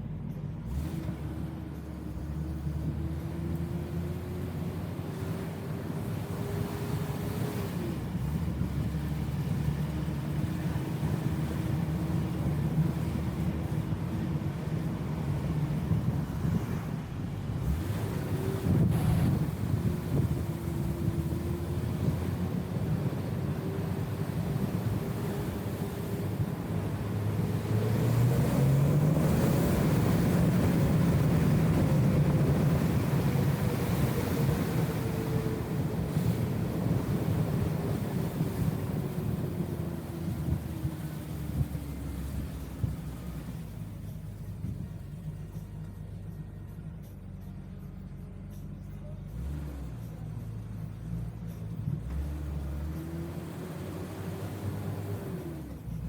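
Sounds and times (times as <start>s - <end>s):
car engine cruising: 0.0s - 56.0s
road drone: 0.0s - 56.0s.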